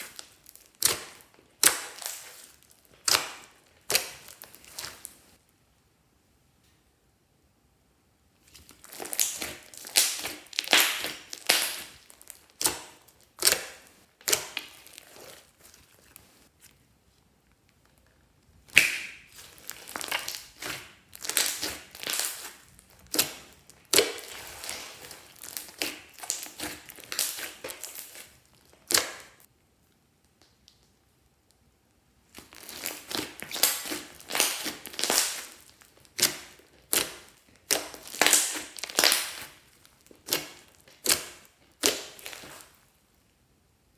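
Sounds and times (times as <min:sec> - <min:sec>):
slime squished by hand: 0:00.0 - 0:05.4, 0:08.4 - 0:16.7, 0:18.5 - 0:29.5, 0:32.3 - 0:43.0.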